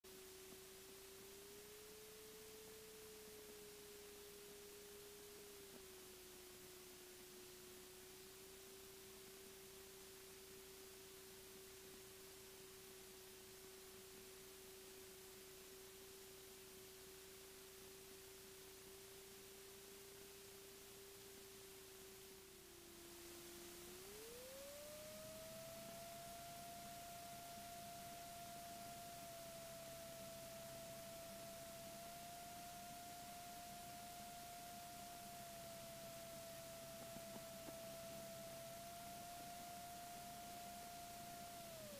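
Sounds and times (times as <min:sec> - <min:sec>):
faint steady pure tone: 0:00.0 - 0:41.9
light hiss: 0:00.1 - 0:41.9.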